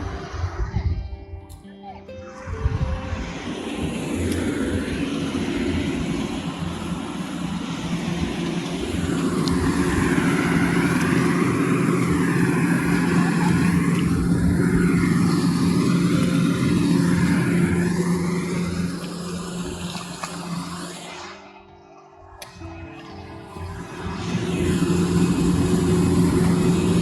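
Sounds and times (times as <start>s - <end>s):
engine running: 2.1s - 27.0s.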